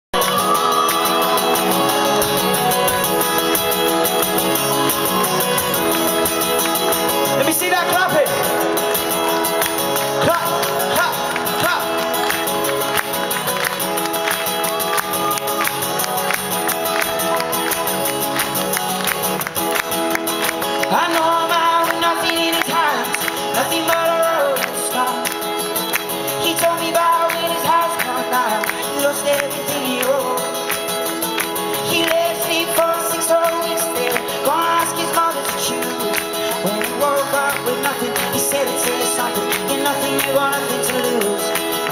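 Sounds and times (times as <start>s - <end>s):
acoustic guitar strumming: 0.1s - 41.9s
crowd clapping along: 0.1s - 41.9s.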